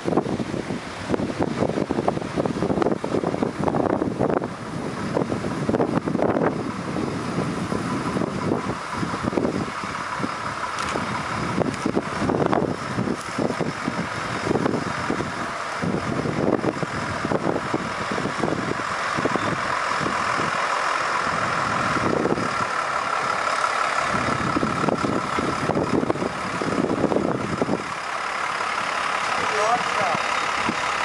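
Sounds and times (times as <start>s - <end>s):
diesel rail motor engine: 0.0s - 31.0s.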